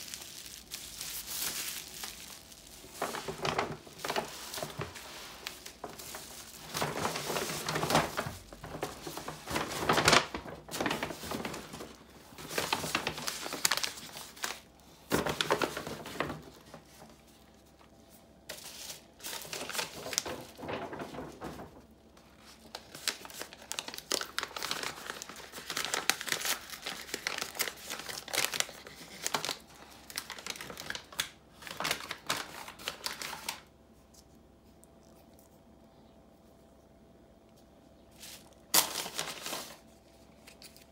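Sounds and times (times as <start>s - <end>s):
bubble wrap and paper crinkling: 0.0s - 35.7s, 37.5s - 40.9s.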